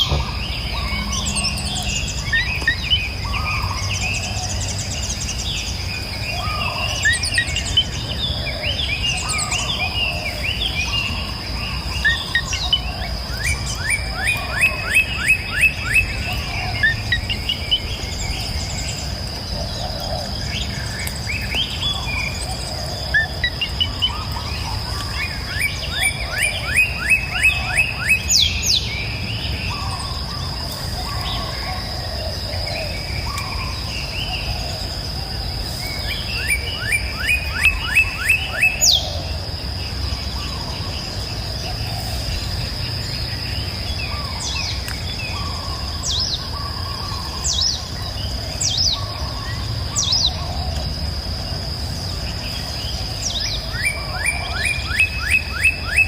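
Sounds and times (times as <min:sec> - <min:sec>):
constant high-pitched tone: 0:00.0 - 0:56.0
high downward-sweeping bird calls: 0:00.0 - 0:56.0
songbirds singing: 0:00.0 - 0:56.0.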